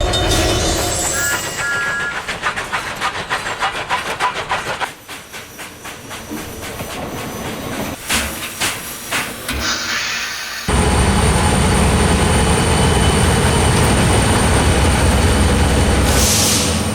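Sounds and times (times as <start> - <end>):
steam locomotive chuffing: 0.0 - 16.9
steam hissing: 0.6 - 16.9.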